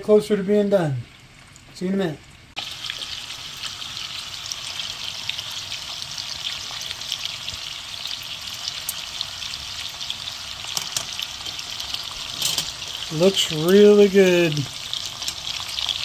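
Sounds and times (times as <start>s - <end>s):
meat sizzling with pops: 1.2s - 16.0s.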